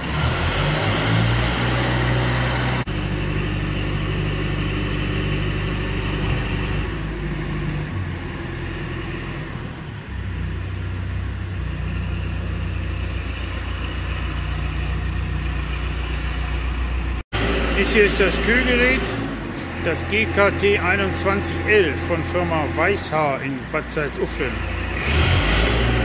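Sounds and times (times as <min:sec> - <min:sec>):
machinery humming: 0:02.4 - 0:26.0.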